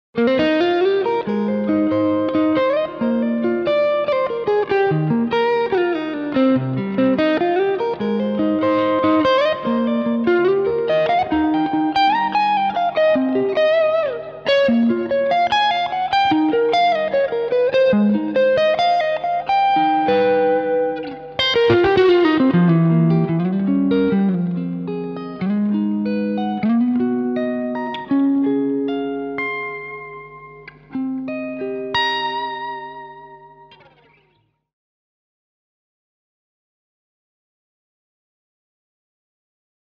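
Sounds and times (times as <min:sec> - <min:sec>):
electric guitar playing chords and melody: 0:00.2 - 0:34.5.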